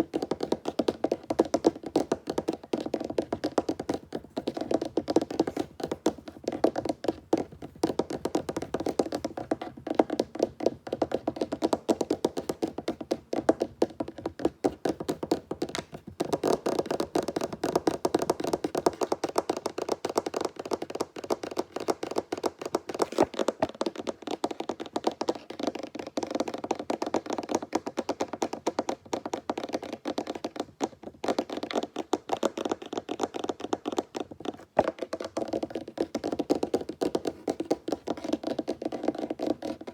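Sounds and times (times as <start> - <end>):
fingertips tapping on wood: 0.0 - 39.9.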